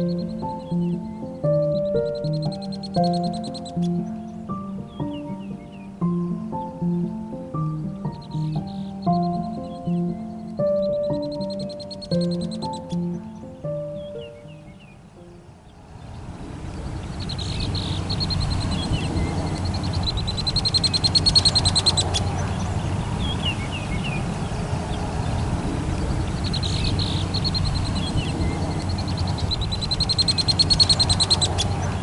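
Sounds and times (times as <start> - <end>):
birds calling: 0.0 - 32.0
steady low rumble: 0.0 - 32.0.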